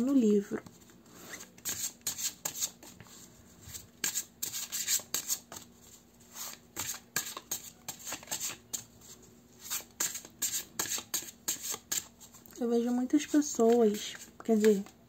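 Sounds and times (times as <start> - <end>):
cards being shuffled by hand: 0.6 - 12.5, 13.2 - 15.0.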